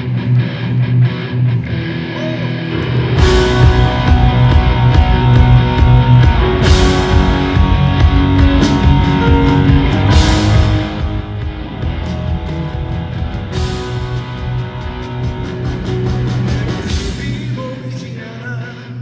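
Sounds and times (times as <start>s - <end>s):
band with drums and bass: 0.0s - 18.2s
rock guitar: 0.0s - 19.0s.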